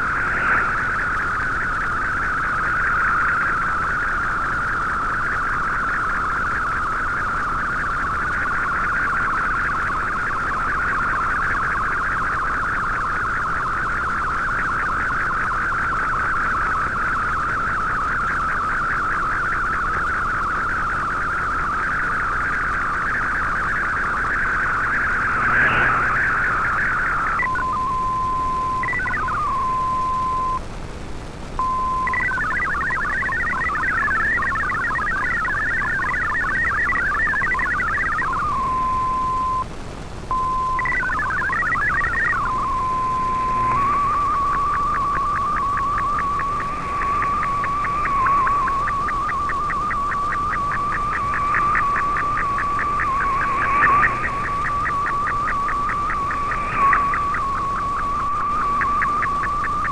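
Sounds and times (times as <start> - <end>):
steady single tone: 0.0 - 30.6, 37.6 - 39.7, 40.3 - 59.9
rapidly hopping data tones: 0.0 - 59.9
warbling picture transmission: 0.0 - 59.9.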